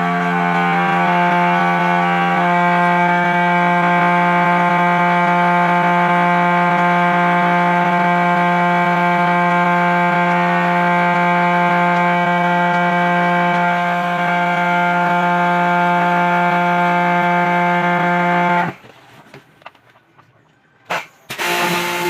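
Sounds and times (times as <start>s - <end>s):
loud mechanical hum: 0.0s - 22.0s.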